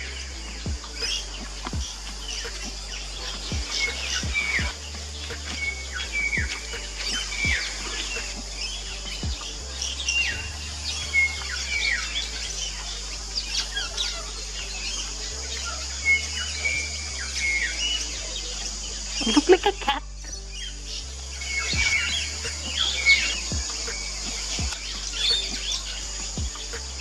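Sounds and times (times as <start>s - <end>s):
background music: 0.0s - 27.0s
birds chirping and twittering: 0.0s - 27.0s.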